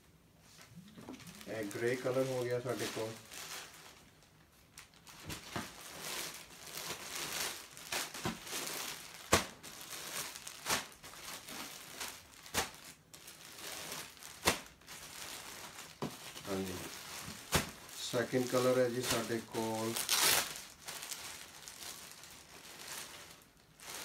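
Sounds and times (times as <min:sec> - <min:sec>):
plastic garment bags crinkling: 0:00.6 - 0:24.0.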